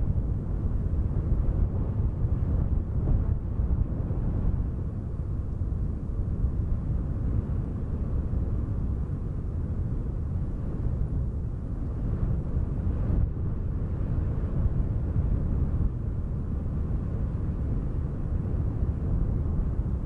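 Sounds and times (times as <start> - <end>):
gusting wind rumble: 0.0 - 20.0.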